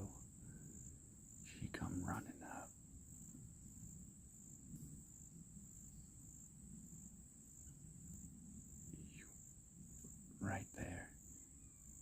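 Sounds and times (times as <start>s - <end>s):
insect chorus high trill: 0.0s - 12.0s.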